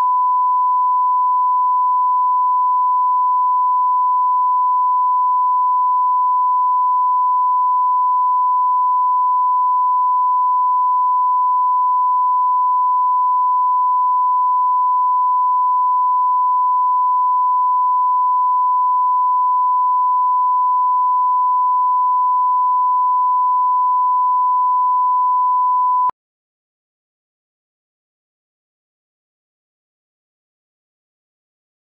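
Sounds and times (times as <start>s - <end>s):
steady pure tone beep: 0.0s - 26.2s.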